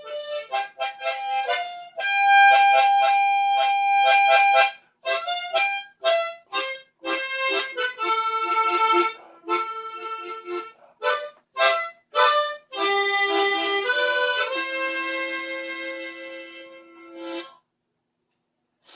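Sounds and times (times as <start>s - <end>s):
harmonica melody: 0.0s - 17.7s.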